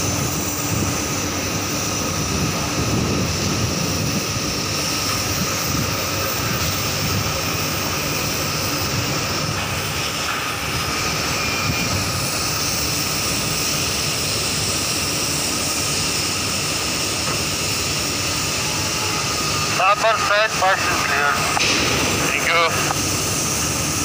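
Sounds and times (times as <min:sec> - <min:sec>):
faint steady whine: 0:00.0 - 0:24.0
ship machinery drone: 0:00.0 - 0:24.0.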